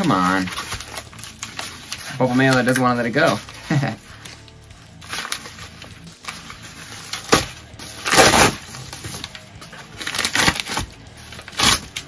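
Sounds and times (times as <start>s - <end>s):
bubble mailer crinkling: 0.0s - 12.0s.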